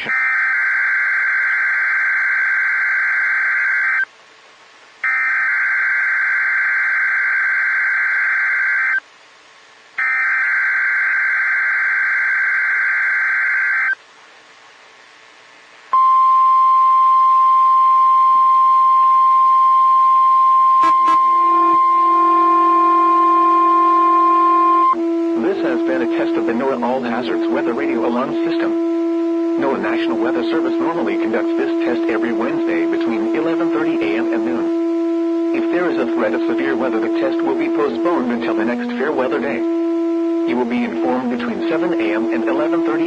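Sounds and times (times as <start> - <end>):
steady warning alarm tone: 0.0 - 4.1, 5.0 - 9.0, 10.0 - 14.0, 16.0 - 43.0.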